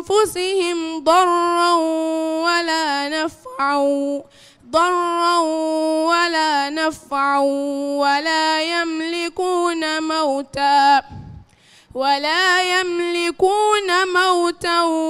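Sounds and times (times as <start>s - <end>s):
woman reciting melodically into microphone: 0.0s - 15.0s.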